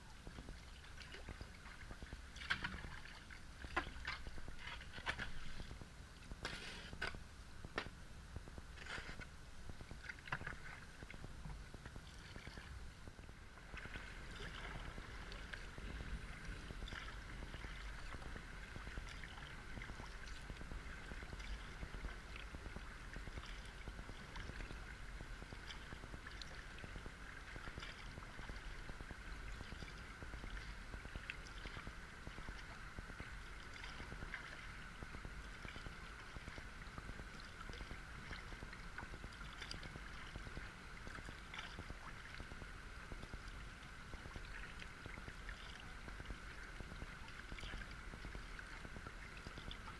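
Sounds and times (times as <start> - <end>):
water lapping along kayak hull: 0.0 - 49.9.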